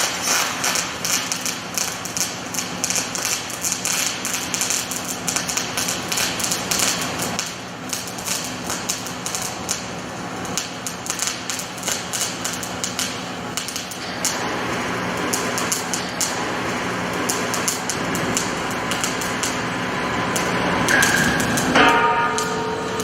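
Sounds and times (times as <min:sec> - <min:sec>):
low electrical hum: 0:00.0 - 0:23.0
welding arc crackling: 0:00.0 - 0:23.0.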